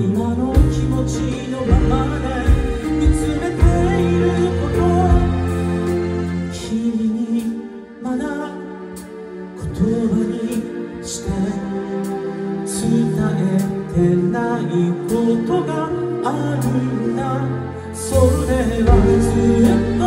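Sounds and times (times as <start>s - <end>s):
band playing: 0.0s - 20.0s
man singing into microphone: 0.0s - 20.0s.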